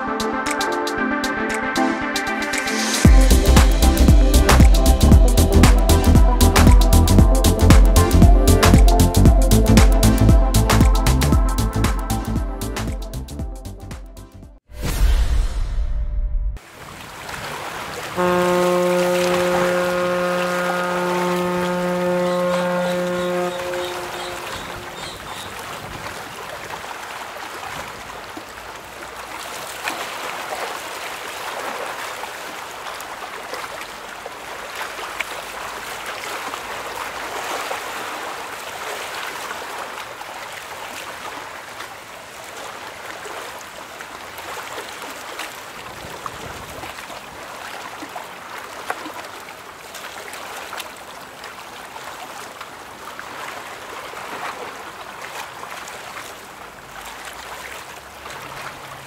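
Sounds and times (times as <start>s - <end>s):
river water rushing and lapping: 0.0s - 13.3s, 16.6s - 59.0s.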